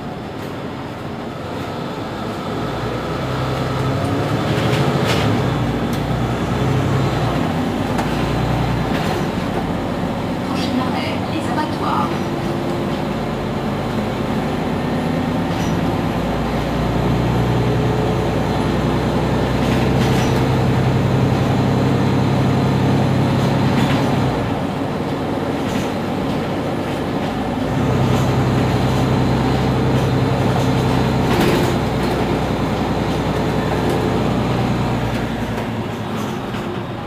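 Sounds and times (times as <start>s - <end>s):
bus engine idling: 0.0s - 37.0s.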